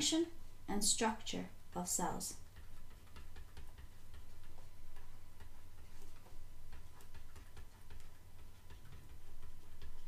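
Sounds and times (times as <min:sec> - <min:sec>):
low steady hum: 0:00.0 - 0:10.0
stylus tapping on tablet: 0:01.7 - 0:10.0.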